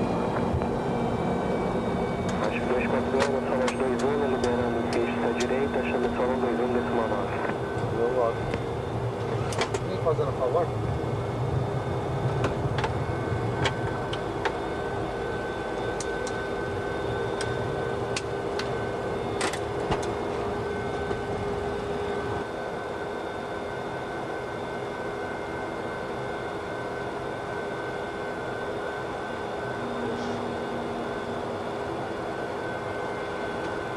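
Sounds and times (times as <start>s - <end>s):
jet engines running: 0.0s - 33.9s
steady whine: 0.0s - 33.9s.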